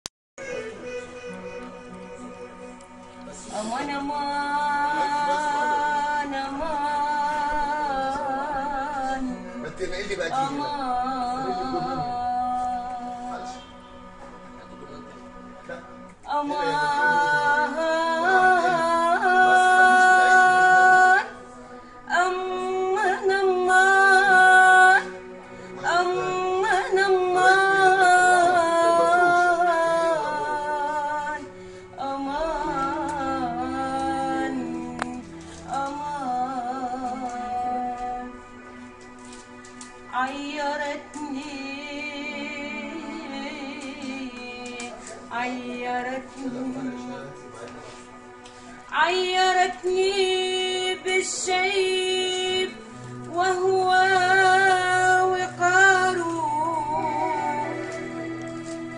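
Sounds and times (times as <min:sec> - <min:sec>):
woman singing with vibrato: 0:00.4 - 0:09.7, 0:10.4 - 0:13.3, 0:16.3 - 0:38.8, 0:40.1 - 0:47.1, 0:48.9 - 0:58.9
steady accompaniment tones: 0:00.4 - 0:58.9.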